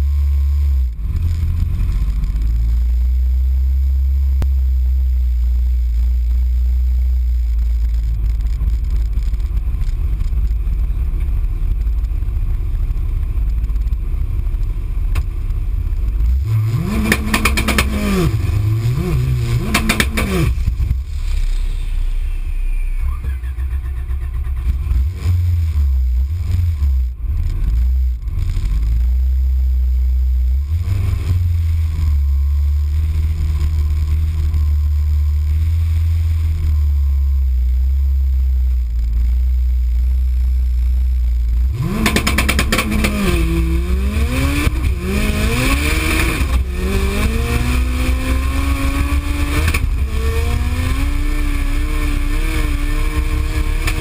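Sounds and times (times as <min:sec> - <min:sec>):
car engine idling and revving: 0:00.0 - 0:54.0
exhaust popping and crackling: 0:00.0 - 0:54.0.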